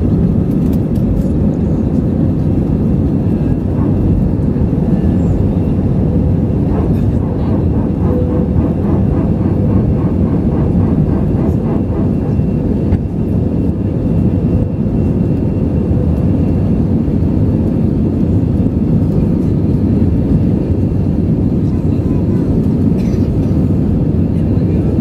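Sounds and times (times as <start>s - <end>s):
jet engines and airflow in cabin: 0.0s - 25.0s.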